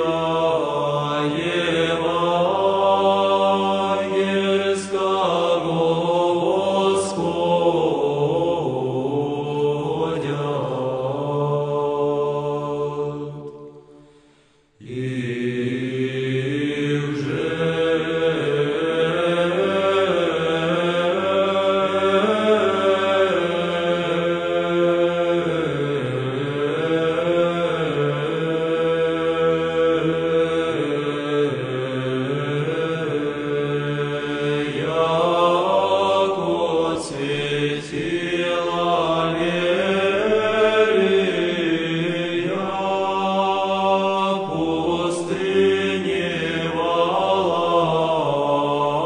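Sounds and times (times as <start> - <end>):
men's choir chanting unaccompanied: 0.0 - 13.6, 14.8 - 49.0.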